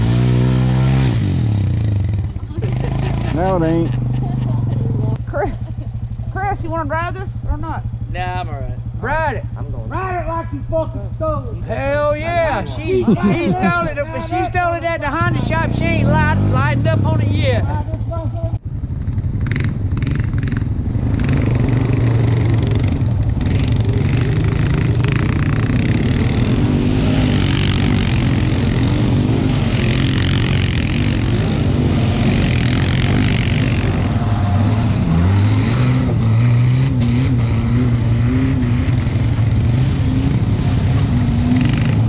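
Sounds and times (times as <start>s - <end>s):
atv engine running: 0.0s - 42.0s.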